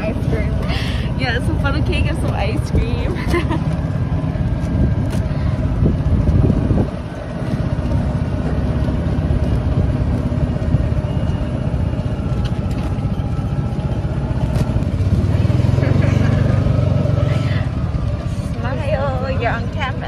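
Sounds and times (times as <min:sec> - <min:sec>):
golf cart motor and tyres rumbling: 0:00.0 - 0:20.0.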